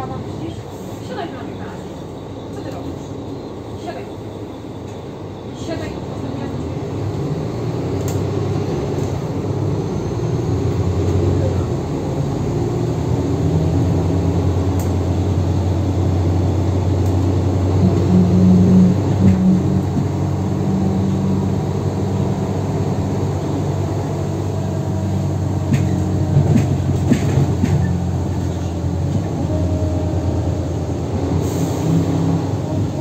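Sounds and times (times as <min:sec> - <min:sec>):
bus diesel engine hum: 0:00.0 - 0:33.0.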